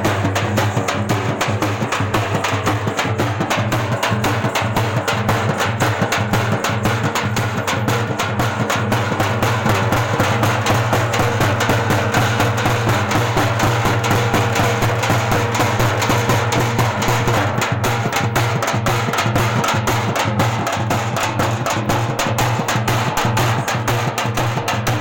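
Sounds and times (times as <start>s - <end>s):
frame drums beaten with sticks: 0.0s - 25.0s.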